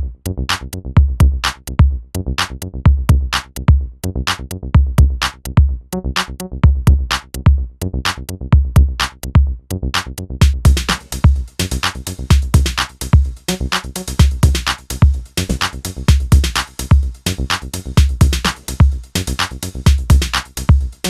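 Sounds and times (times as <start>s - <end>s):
electronic music with drum-machine beat: 0.0s - 21.0s.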